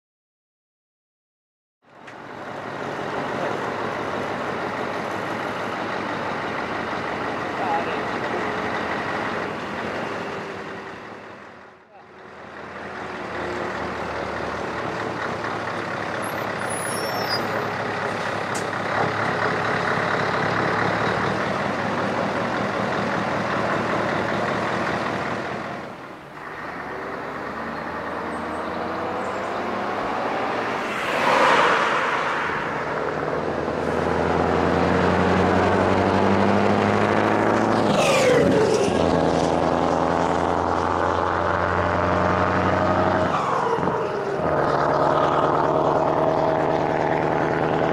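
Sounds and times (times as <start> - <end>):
diesel truck driving past: 1.9 - 47.9.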